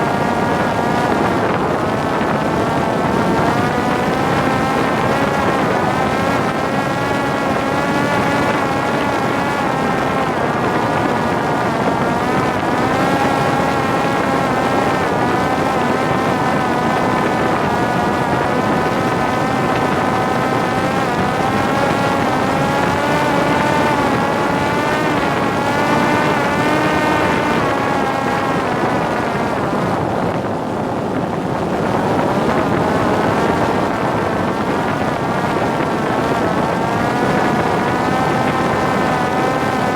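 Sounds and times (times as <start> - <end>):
drone motor and propeller whining: 0.0 - 39.9
wind on microphone: 0.0 - 39.9.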